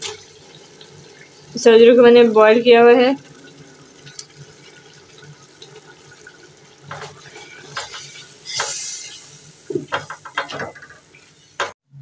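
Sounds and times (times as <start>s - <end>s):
food sizzling in oil: 0.0s - 11.8s.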